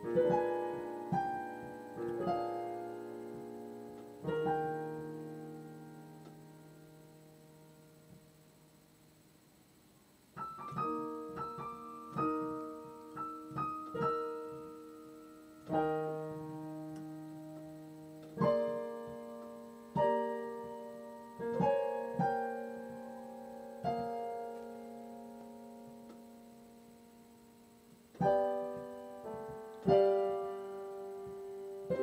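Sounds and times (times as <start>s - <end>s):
piano notes and chords: 0.0s - 8.3s, 10.4s - 32.0s.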